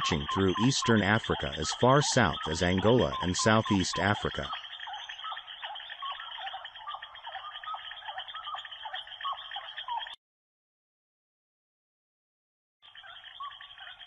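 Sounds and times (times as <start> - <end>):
chorus of chirping animal calls: 0.0 - 10.2, 12.8 - 14.0.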